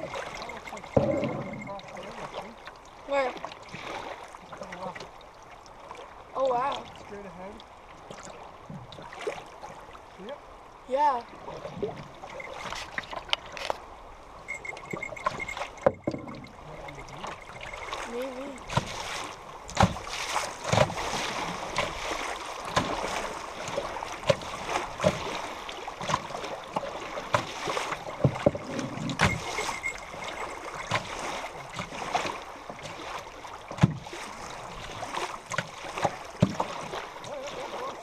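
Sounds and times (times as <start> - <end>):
river water rushing: 0.0 - 38.0
waves slapping a hull: 0.0 - 38.0.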